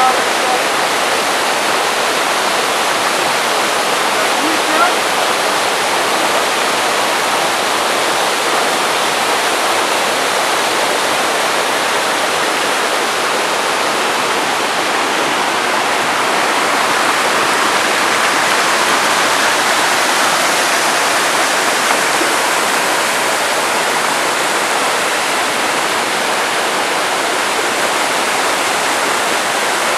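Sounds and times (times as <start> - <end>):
waterfall crashing: 0.0 - 29.9.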